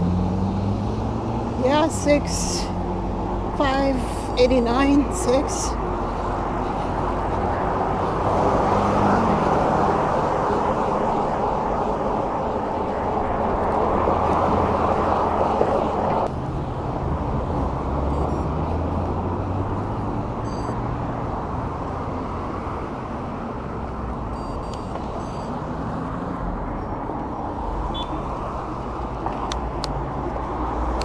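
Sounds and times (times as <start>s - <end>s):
cars going by: 0.0s - 31.0s
wind and road noise: 0.0s - 31.0s.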